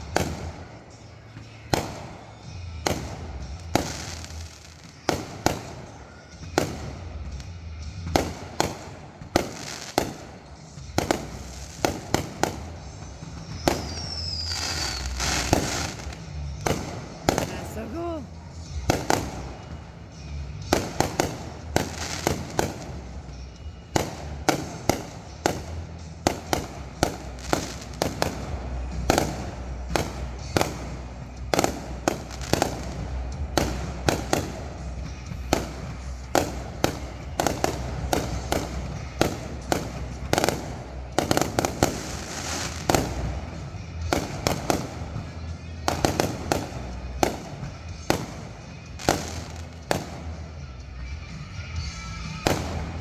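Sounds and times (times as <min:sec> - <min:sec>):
continuous low rumble: 0:00.0 - 0:53.0
fireworks banging and crackling: 0:00.0 - 0:53.0.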